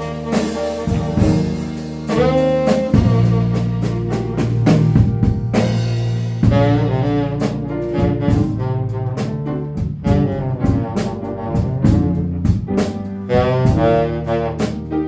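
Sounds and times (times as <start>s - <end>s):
drum hits: 0.0s - 9.1s, 9.8s - 14.0s
double bass: 0.0s - 15.0s
jazz ballad melody: 0.0s - 15.0s.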